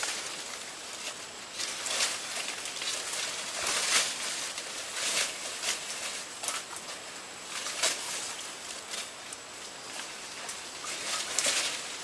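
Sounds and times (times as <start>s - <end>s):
body brushing through undergrowth: 0.0s - 12.0s
footsteps crunching dry leaves: 0.0s - 12.0s.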